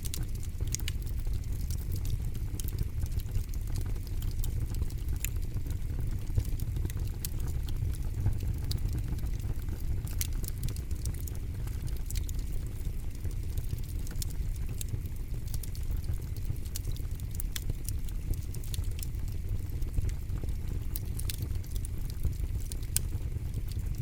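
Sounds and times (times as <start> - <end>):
campfire crackles and pops: 0.0 - 24.0
low rumble of flames: 0.0 - 24.0.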